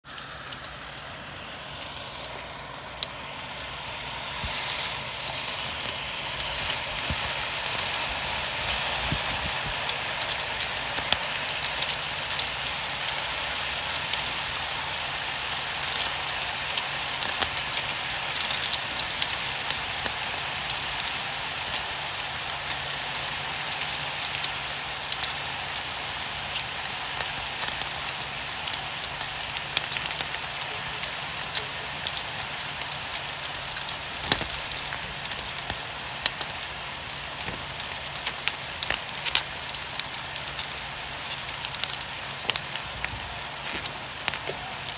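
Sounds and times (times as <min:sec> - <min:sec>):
rain falling: 0:00.0 - 0:44.9
raindrops ticking on hard surface: 0:00.0 - 0:44.9.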